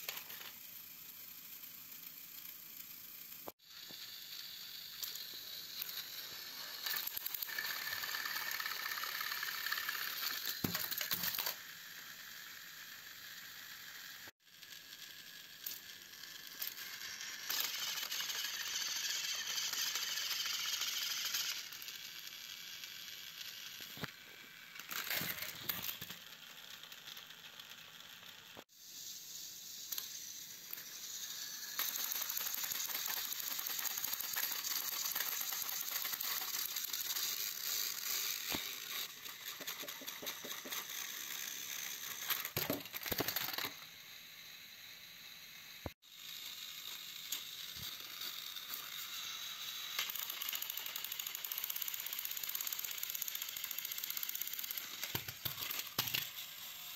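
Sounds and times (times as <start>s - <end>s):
toy train motors whirring: 0.0s - 56.9s.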